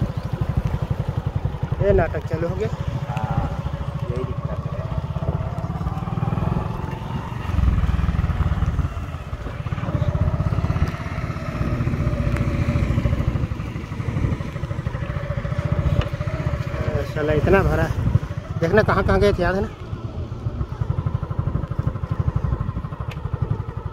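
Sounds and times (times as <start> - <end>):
small petrol engine revving: 0.0 - 23.9.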